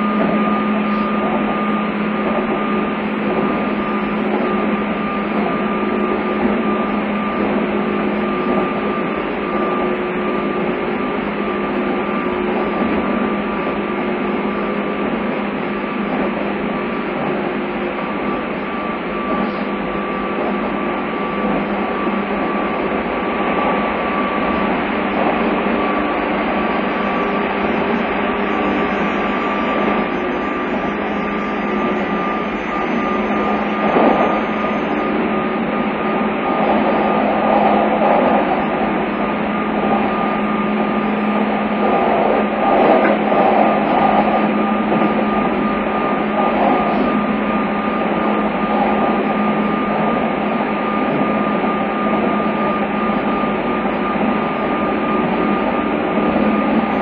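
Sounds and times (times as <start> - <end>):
constant humming tones: 0.0 - 57.0
train wheels rumbling on rails: 0.0 - 57.0.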